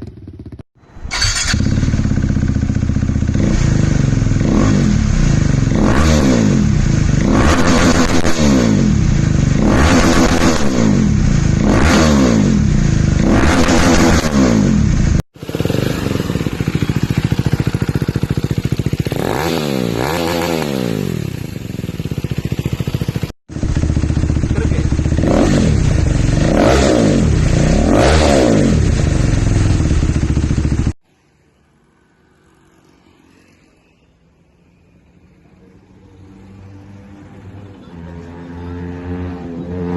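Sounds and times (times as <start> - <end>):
motorcycle engine revving: 0.0 - 31.0, 35.6 - 39.9.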